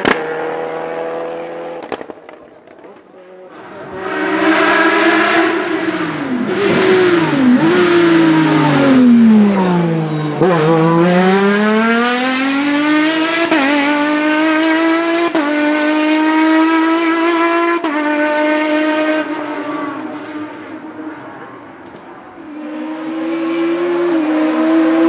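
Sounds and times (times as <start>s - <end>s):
race car engine revving and shifting: 0.0s - 25.0s.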